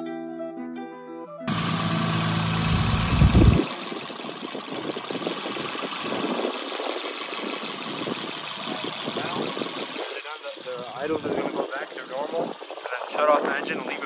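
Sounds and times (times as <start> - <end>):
car engine idling high: 1.5 - 14.0
engine running rough: 1.5 - 14.0.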